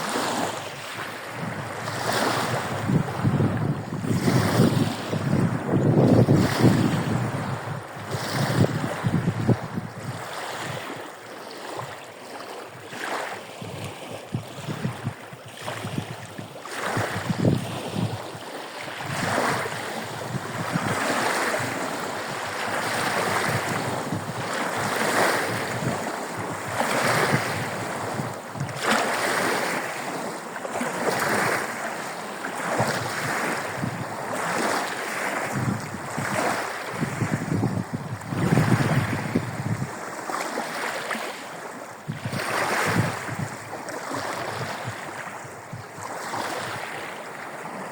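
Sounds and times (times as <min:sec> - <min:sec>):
waves washing onto shore: 0:00.0 - 0:47.9
wind buffeting microphone: 0:01.3 - 0:11.0, 0:13.6 - 0:30.3, 0:32.6 - 0:40.2, 0:42.0 - 0:47.8.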